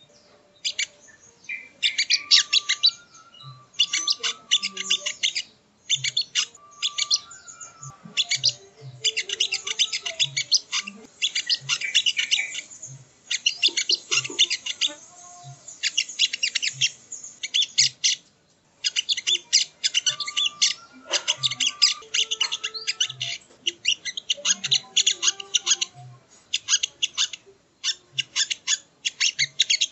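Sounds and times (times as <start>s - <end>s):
bird calling with rapid high chirps: 0.0s - 29.9s.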